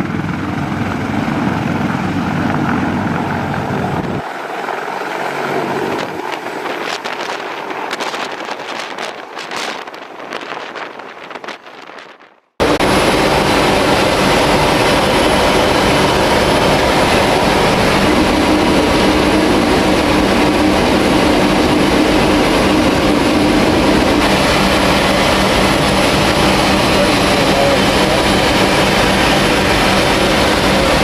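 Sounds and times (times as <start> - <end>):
gusty wind noise: 0.0 - 4.3, 5.3 - 31.0
aircraft engine drone: 0.0 - 11.7, 12.6 - 31.0.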